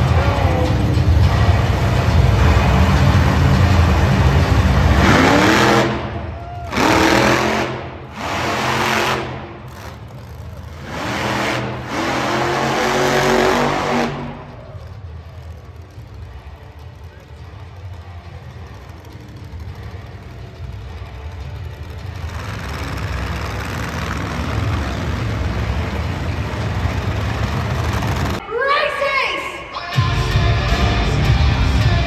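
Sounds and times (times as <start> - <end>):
monster truck engine revving: 0.0 - 28.4.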